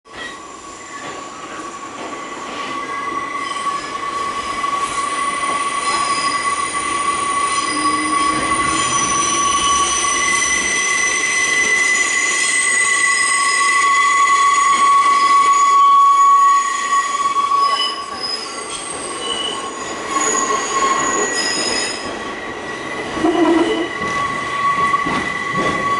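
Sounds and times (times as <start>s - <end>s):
train wheels squealing on rails: 0.1s - 25.9s.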